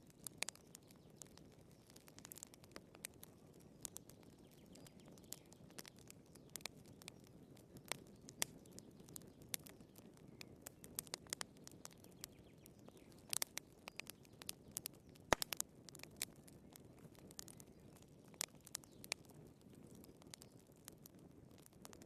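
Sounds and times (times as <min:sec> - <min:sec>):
low rumble of flame: 0:00.0 - 0:22.0
wood fire crackling and popping: 0:00.0 - 0:22.0.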